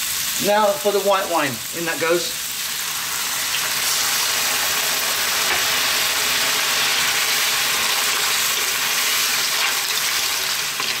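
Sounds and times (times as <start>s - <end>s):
wine sizzling in hot pan: 0.0s - 11.0s.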